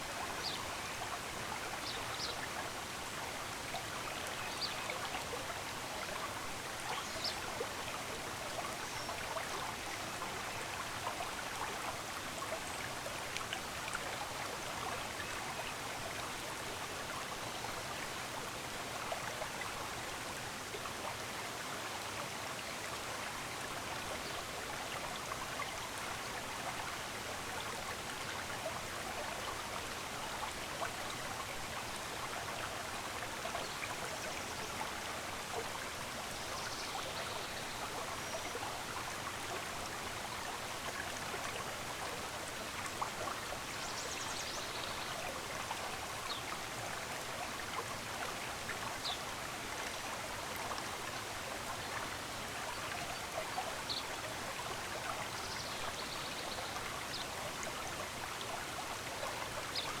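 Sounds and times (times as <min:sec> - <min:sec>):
flowing stream water: 0:00.0 - 1:00.0.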